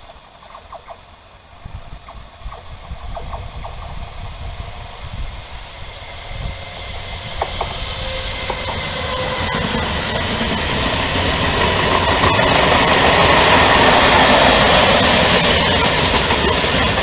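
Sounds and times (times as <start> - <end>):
freight train rumbling: 0.0 - 17.0
hiss: 1.8 - 17.0.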